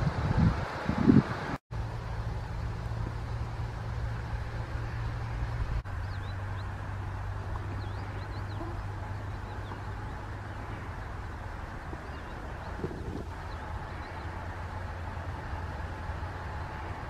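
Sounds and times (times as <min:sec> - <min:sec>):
outdoor background noise: 0:00.0 - 0:17.0
steady low hum: 0:00.0 - 0:17.0.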